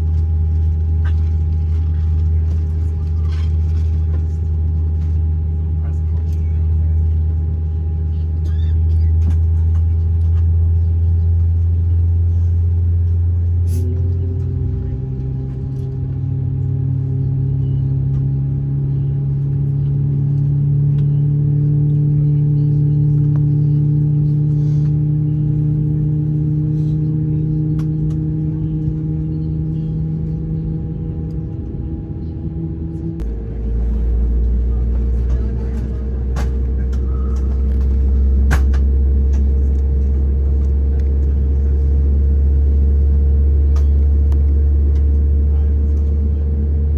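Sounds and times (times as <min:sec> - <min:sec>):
aircraft cabin engine hum: 0:00.0 - 0:46.9.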